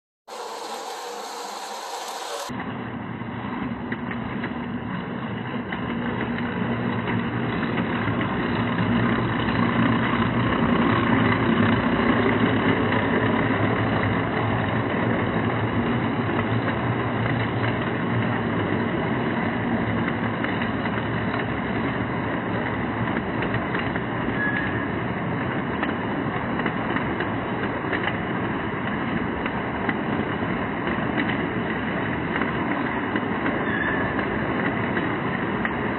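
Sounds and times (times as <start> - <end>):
model train wheels rumbling on rails: 0.3 - 35.9.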